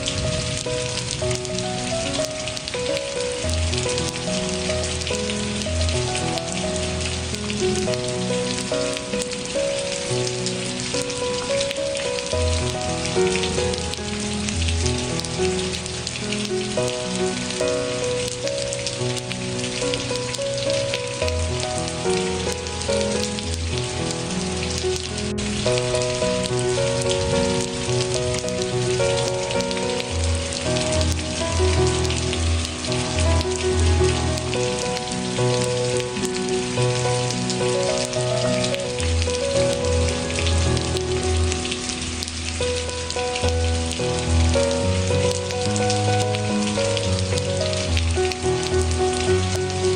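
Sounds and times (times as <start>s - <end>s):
slow soft instrumental music: 0.0s - 49.9s
steady rain falling: 0.0s - 49.9s.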